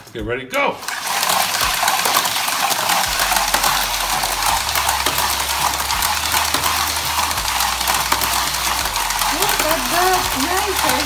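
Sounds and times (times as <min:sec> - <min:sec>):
toy car motors whirring: 0:00.8 - 0:11.0
toy cars rattling in plastic tube: 0:00.8 - 0:11.0.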